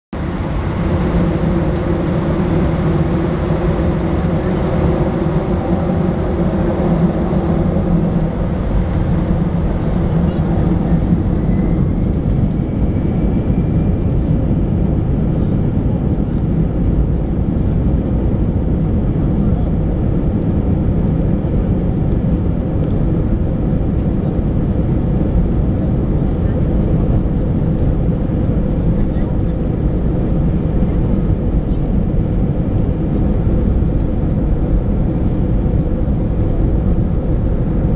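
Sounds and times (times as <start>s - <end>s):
airliner cabin engine rumble: 0.1s - 37.9s.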